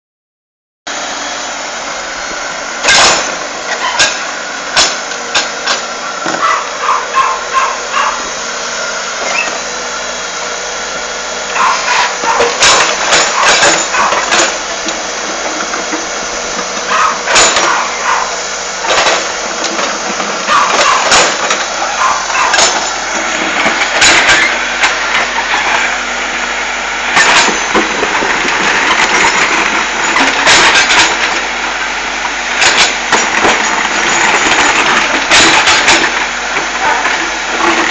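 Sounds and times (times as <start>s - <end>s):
backhoe engine running: 0.9s - 37.9s.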